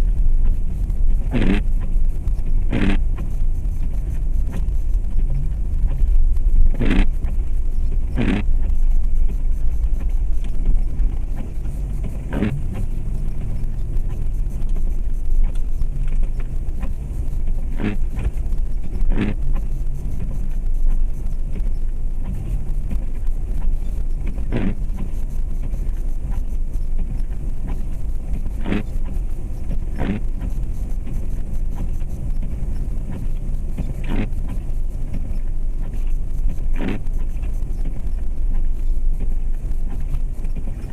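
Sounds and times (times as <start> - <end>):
car engine rumble: 0.0 - 40.9
road noise inside car: 0.0 - 40.9.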